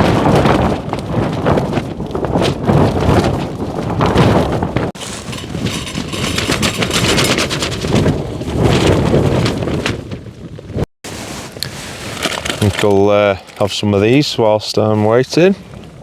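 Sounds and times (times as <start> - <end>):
tent fabric flapping and snapping: 0.0 - 13.1
wind rumble on microphone: 0.0 - 16.0.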